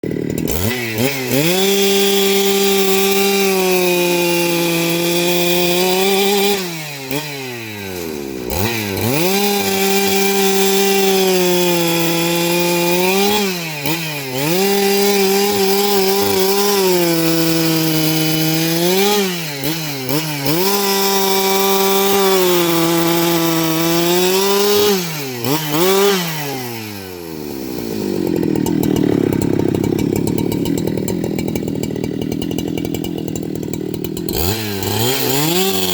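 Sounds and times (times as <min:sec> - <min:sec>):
chainsaw sawing wood: 0:00.0 - 0:35.9.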